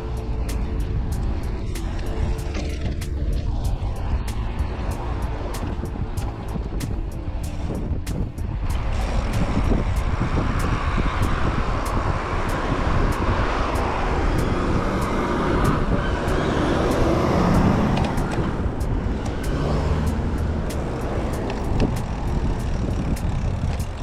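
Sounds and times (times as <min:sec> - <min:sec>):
road traffic: 0:00.0 - 0:24.0
truck engine passing: 0:00.0 - 0:24.0
wind rumble: 0:00.0 - 0:24.0.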